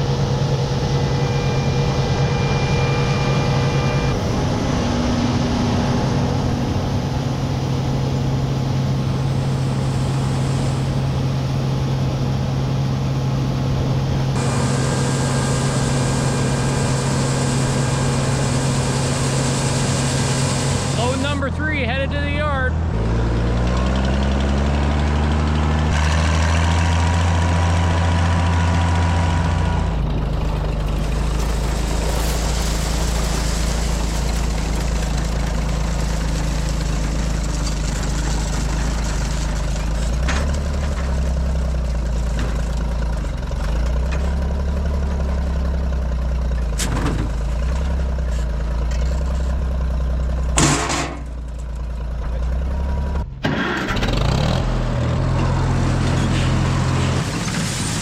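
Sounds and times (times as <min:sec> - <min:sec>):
farm machinery engine running: 0:00.0 - 0:58.0.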